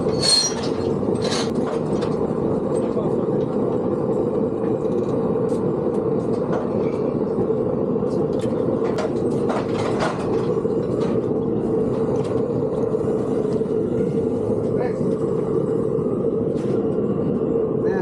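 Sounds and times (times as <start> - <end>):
machine drone: 0.0 - 18.0.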